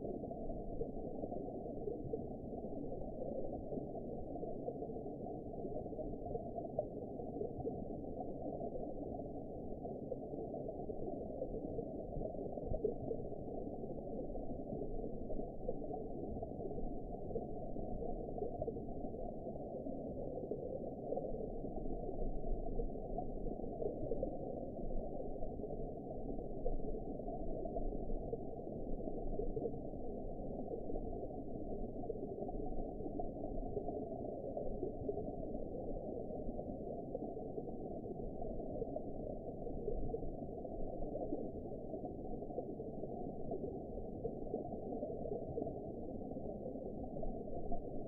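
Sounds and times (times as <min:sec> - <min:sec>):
muffled underwater wash: 0:00.0 - 0:48.0.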